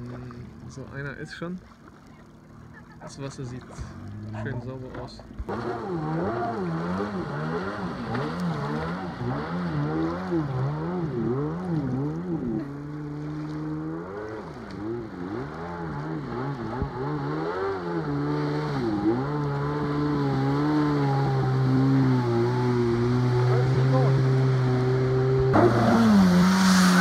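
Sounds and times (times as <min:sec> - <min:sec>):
jet ski engine revving: 0:00.0 - 0:27.0.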